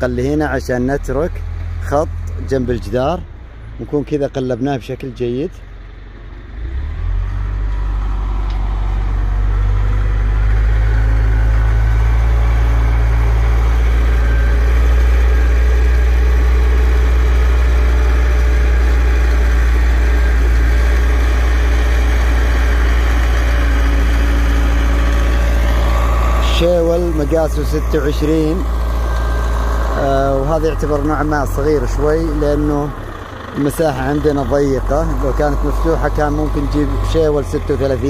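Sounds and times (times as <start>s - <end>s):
diesel engine working: 0.0s - 38.0s.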